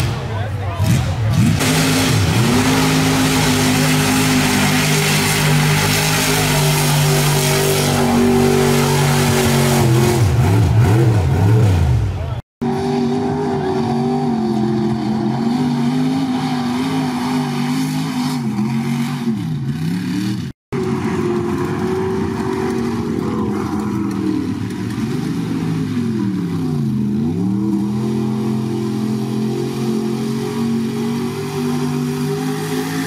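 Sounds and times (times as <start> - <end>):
truck engine revving high: 0.0 - 33.0.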